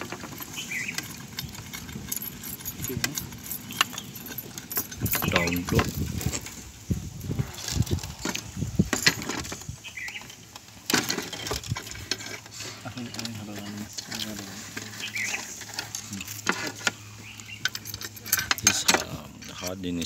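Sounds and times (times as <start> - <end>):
steel wires clinking: 0.0 - 20.0.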